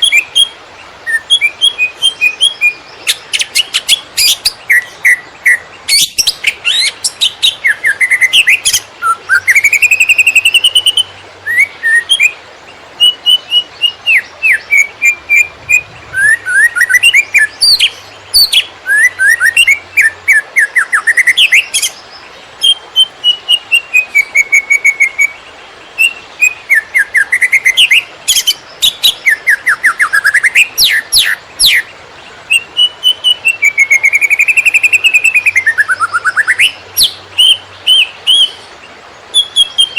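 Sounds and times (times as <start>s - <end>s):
bird chirping and whistling: 1.1s - 12.4s, 13.0s - 21.9s, 22.6s - 25.3s, 26.0s - 31.8s, 32.5s - 38.6s, 39.4s - 39.9s.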